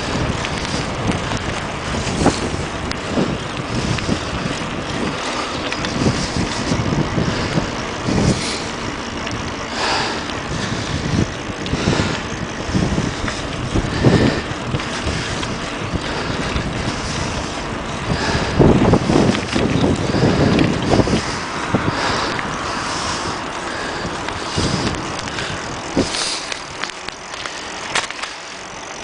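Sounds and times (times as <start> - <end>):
bicycle bumps: 0.0 - 29.0
wind buffeting microphone: 0.0 - 29.0.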